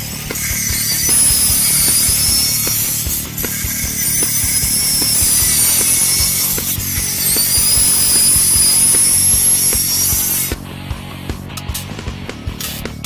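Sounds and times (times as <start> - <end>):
chop saw cutting steel: 0.0 - 10.6.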